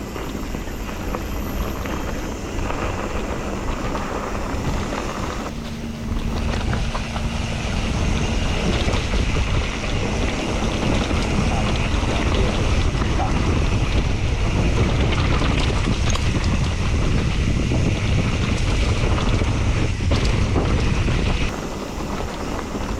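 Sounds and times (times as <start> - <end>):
bike rattles and clicks: 0.0 - 22.9
bike tyres rolling on dirt: 0.0 - 22.9
wind rushing over microphone: 0.0 - 22.9.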